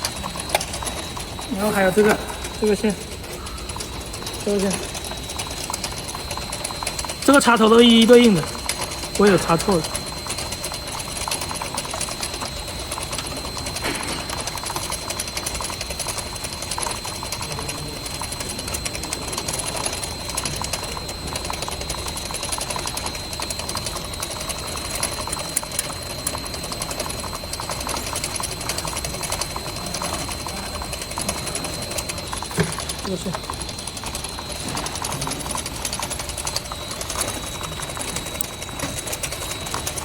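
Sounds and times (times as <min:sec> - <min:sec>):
machinery rattling: 0:00.0 - 0:40.0
thin high whine: 0:00.0 - 0:40.0.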